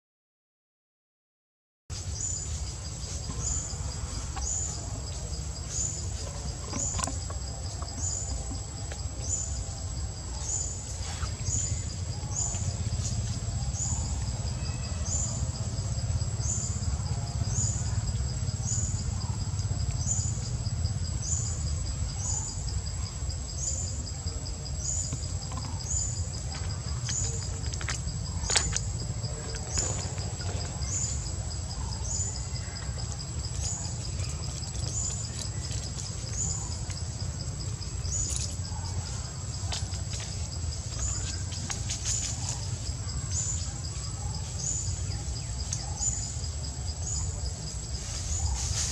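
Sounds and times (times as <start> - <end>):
insect chirp: 1.9 - 48.9
insect high-pitched whine: 1.9 - 48.9.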